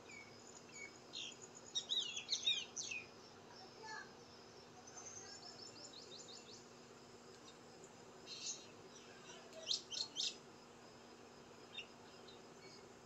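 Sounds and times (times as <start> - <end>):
small birds chirping: 0.0 - 10.5, 11.6 - 13.0
faint steady hum: 0.0 - 13.0.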